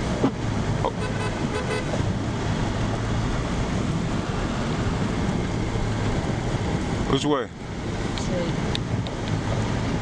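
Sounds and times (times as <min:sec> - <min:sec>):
car engine hum: 0:00.0 - 0:10.0
tyre and road noise: 0:00.0 - 0:10.0.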